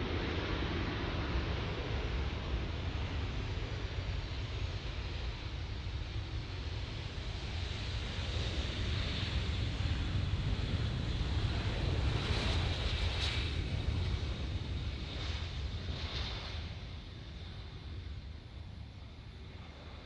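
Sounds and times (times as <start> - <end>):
jet engine roar with deep rumble: 0.0 - 20.0.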